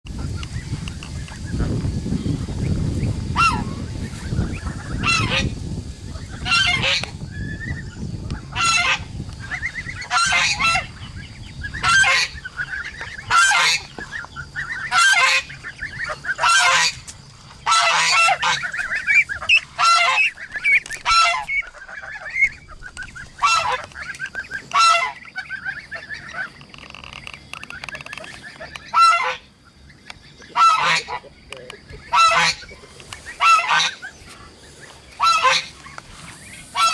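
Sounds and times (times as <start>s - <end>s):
ducks and geese honking: 0.1s - 36.9s.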